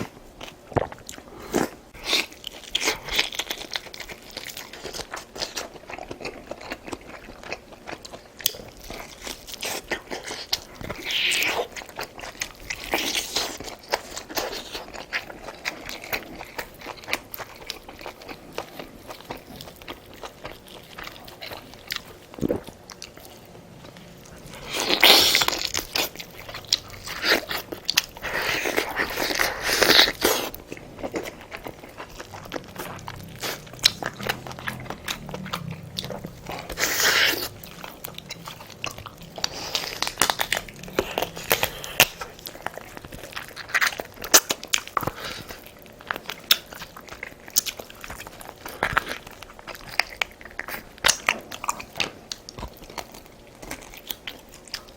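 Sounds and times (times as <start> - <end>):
food crunching: 0.0 - 54.9
person chewing: 0.0 - 54.9.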